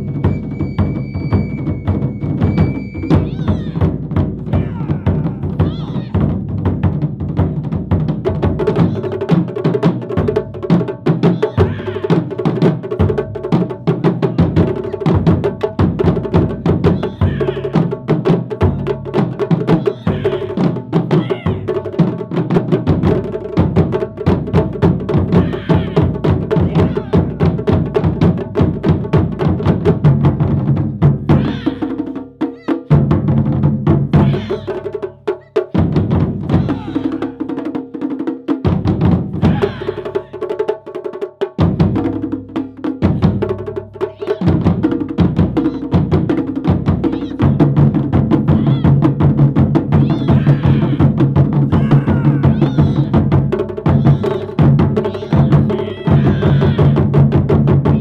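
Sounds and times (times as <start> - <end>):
drum ensemble playing fast rhythm: 0.0 - 58.0.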